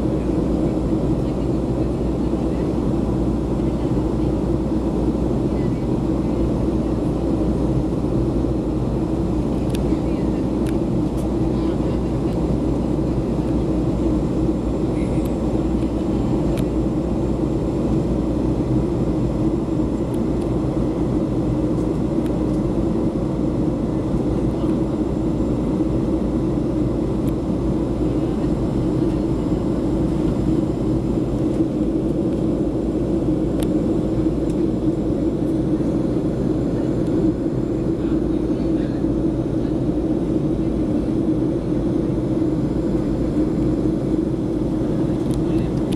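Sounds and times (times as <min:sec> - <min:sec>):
airliner cabin engine and air noise: 0:00.0 - 0:45.9.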